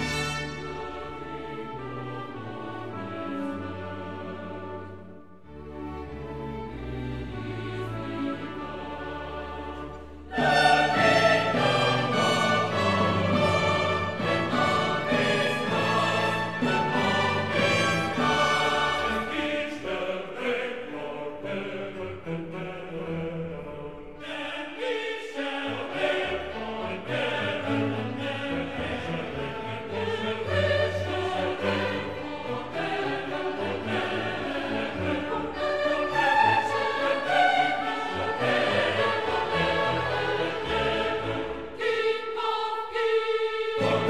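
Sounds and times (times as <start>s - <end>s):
orchestral accompaniment: 0.0s - 42.7s, 43.5s - 44.0s
choir singing: 0.0s - 44.0s.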